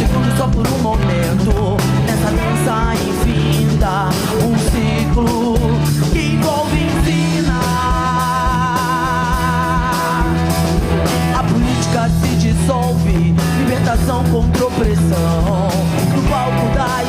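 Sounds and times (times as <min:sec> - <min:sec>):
bass guitar: 0:00.0 - 0:17.0
drum kit: 0:00.0 - 0:17.0
electric guitar lead line: 0:00.0 - 0:17.0.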